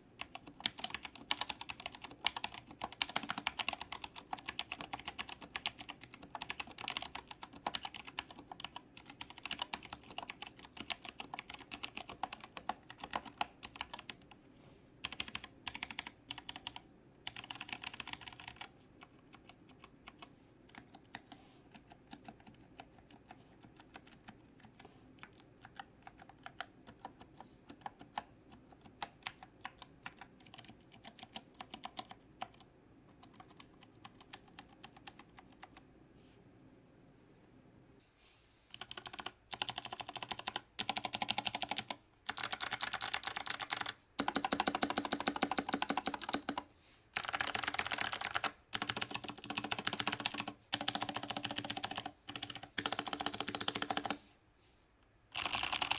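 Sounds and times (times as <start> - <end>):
typing on mechanical keyboard: 0.2 - 14.4, 15.0 - 35.8, 38.7 - 54.2, 55.3 - 55.9.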